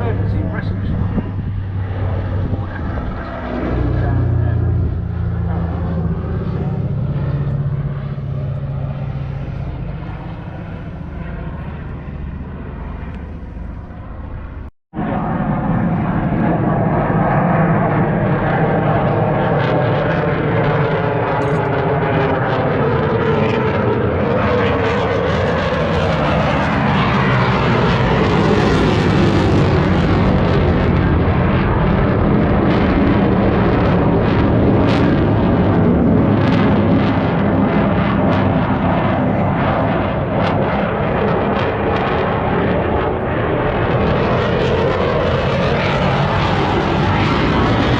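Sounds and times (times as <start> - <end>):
propeller aircraft flying overhead: 0.0 - 47.9.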